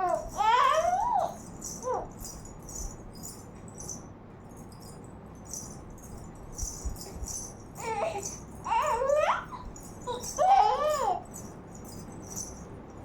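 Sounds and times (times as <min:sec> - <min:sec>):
rattle shaken: 0:00.0 - 0:13.0.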